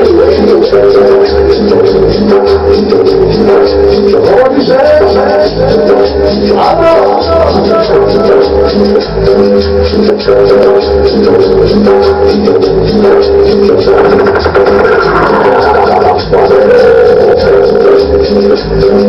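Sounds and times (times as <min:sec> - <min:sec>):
bass beat: 0:00.0 - 0:19.0
dance music through sound system: 0:00.0 - 0:19.0.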